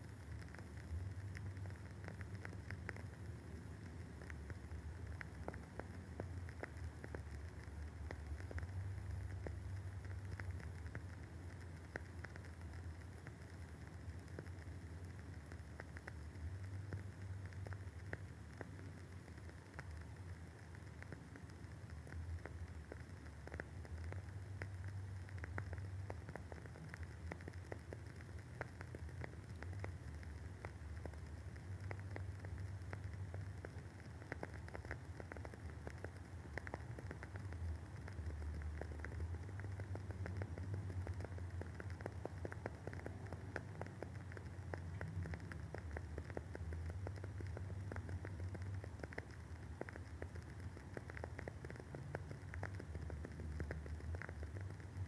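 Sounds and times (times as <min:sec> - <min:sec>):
candle wick crackling: 0:00.0 - 0:55.0
low steady hum: 0:00.0 - 0:55.0.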